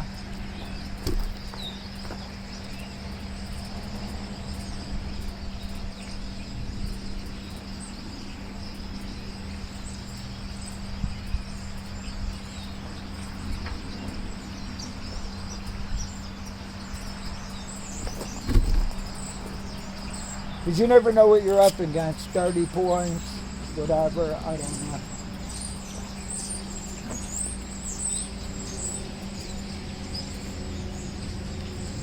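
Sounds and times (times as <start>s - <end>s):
constant low hum: 0.0s - 32.0s
insects chirring: 0.0s - 32.0s.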